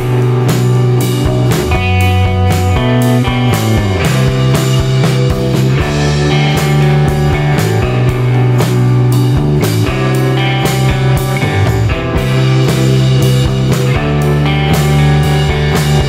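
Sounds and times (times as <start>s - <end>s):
rock music with guitar and drums: 0.0s - 16.0s.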